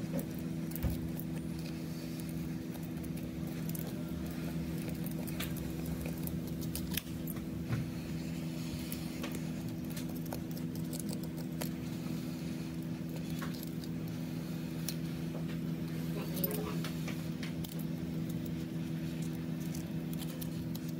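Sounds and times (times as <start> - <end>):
low electrical hum: 0.0 - 20.9.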